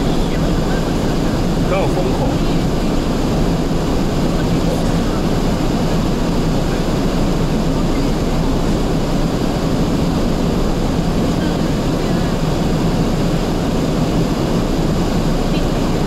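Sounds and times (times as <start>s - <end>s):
steady low hum: 0.0s - 16.0s
strong wind rushing: 0.0s - 16.0s.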